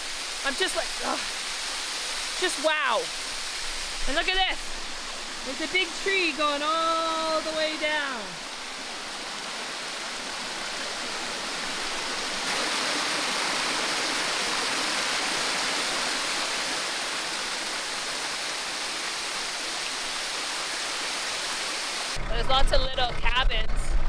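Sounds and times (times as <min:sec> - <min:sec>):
water splashing over rocks: 0:00.0 - 0:22.2.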